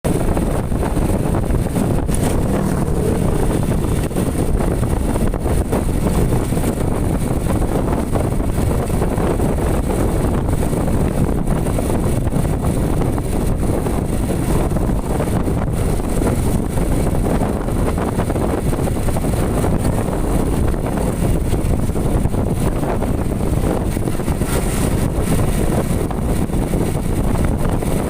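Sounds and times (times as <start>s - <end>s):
road traffic rumble: 0.0s - 28.0s
wind buffeting microphone: 0.0s - 28.0s.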